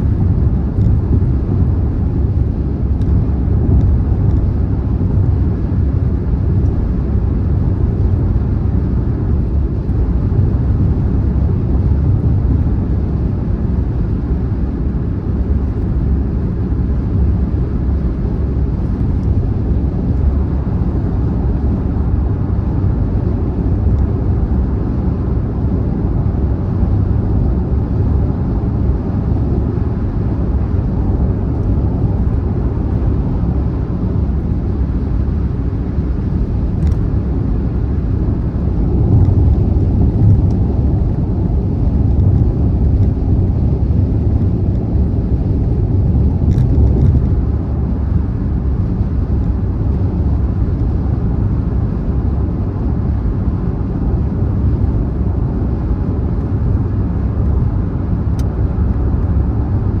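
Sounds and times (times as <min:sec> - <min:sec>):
road and tyre rumble: 0:00.0 - 1:00.0.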